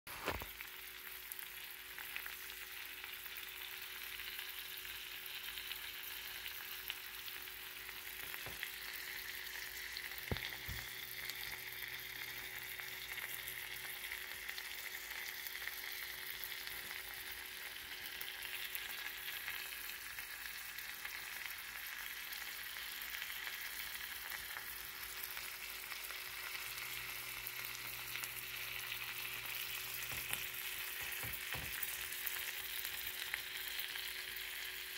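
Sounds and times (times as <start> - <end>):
fish sizzling in a pan: 0.1 - 34.9.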